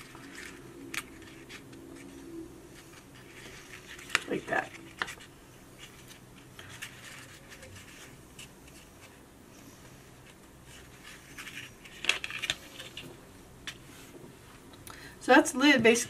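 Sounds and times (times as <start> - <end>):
paper rustling and scraping: 0.0 - 14.3.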